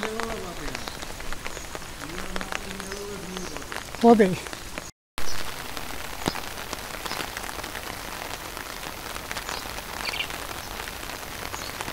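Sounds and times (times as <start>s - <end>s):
rain falling onto water: 0.0s - 11.9s.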